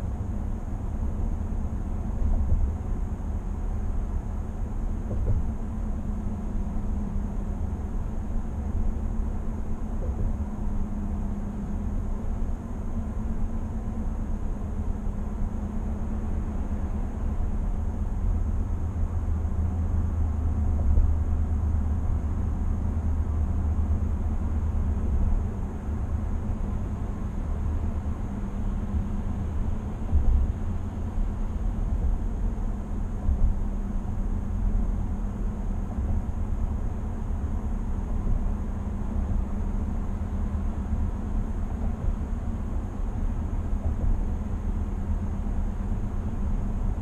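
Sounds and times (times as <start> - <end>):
road and tyre rumble: 0.0 - 47.0.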